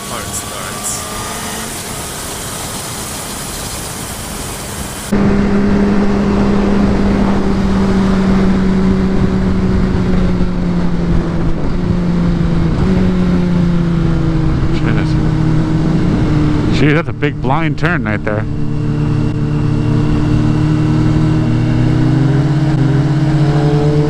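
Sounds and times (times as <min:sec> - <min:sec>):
motorcycle engine running high: 0:00.0 - 0:24.0
wind rushing over microphone: 0:00.6 - 0:24.0.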